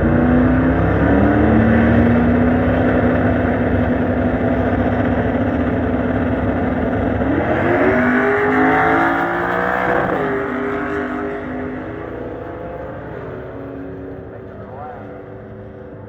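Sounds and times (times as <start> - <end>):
drag car engines revving: 0.0 - 16.0.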